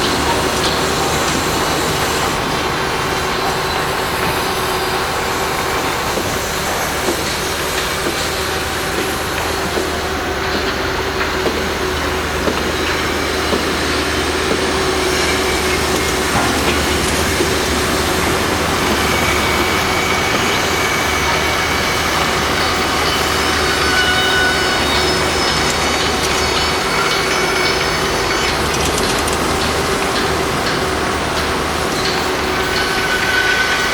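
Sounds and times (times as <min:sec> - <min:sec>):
machinery rumble: 0:00.0 - 0:33.9.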